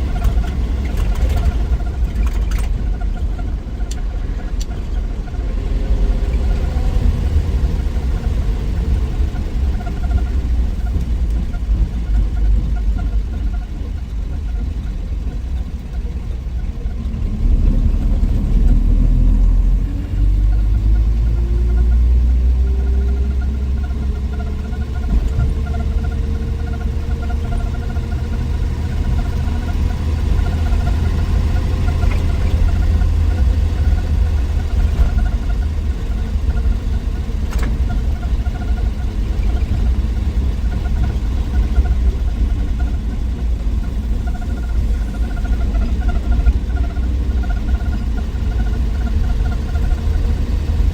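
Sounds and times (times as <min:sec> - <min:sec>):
car engine low rumble: 0:00.0 - 0:50.9.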